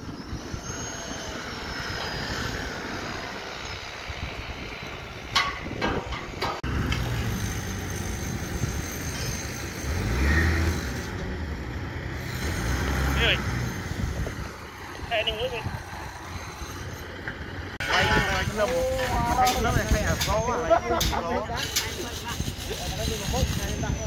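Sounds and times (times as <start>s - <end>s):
wheel loader diesel engine running: 0.0s - 24.0s.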